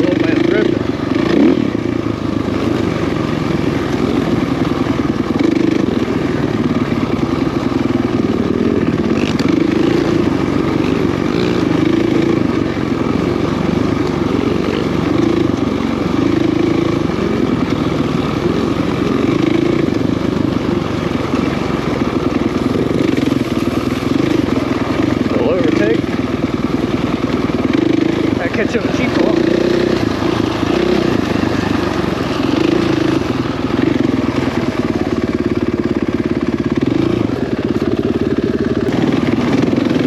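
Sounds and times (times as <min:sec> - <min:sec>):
dirt bike engine running: 0:00.0 - 0:40.0.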